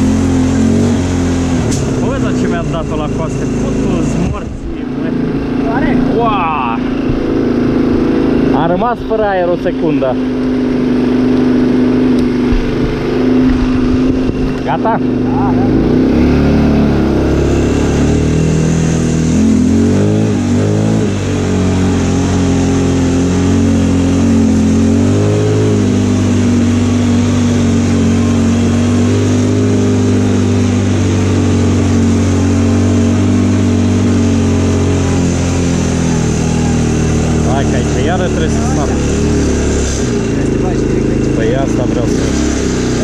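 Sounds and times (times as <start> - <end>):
quad bike engine running: 0.0 - 43.0.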